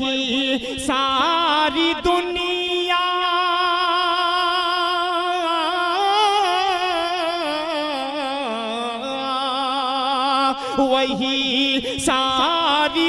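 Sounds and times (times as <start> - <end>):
man singing a long note: 0.0 - 13.0.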